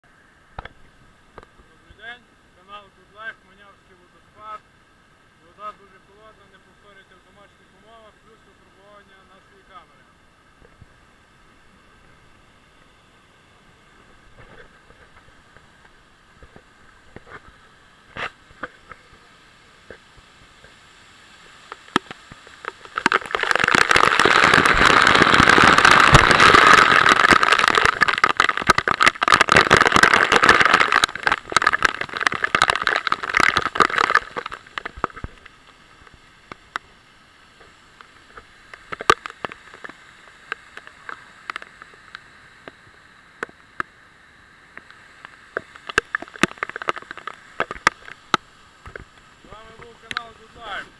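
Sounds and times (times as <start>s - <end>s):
water hiss with sharp ticks: 0.1s - 50.9s
waterfall splashing: 5.4s - 10.6s, 13.8s - 50.9s.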